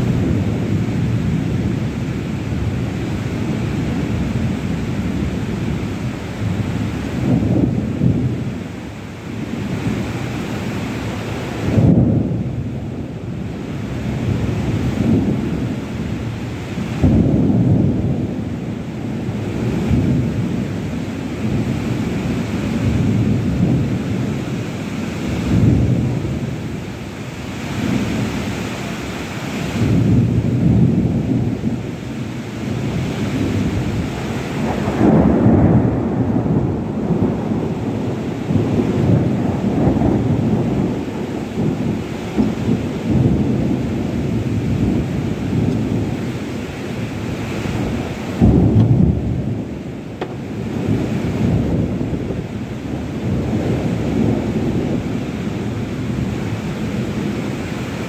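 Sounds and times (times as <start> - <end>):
deep surges of wind: 0.0 - 58.0
heavy rain pouring: 0.0 - 58.0.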